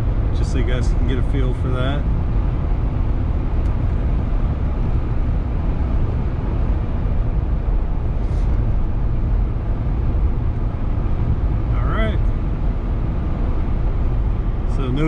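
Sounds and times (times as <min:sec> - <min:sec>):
wind noise inside car: 0:00.0 - 0:15.0.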